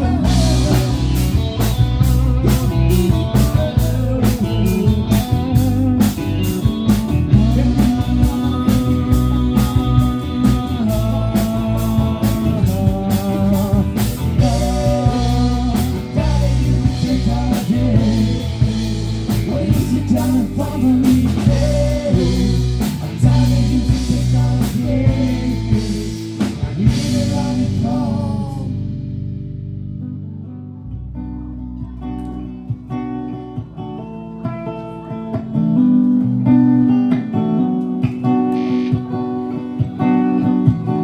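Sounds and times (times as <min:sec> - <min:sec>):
rock music with drums and guitar: 0:00.0 - 0:30.0, 0:31.5 - 0:41.0.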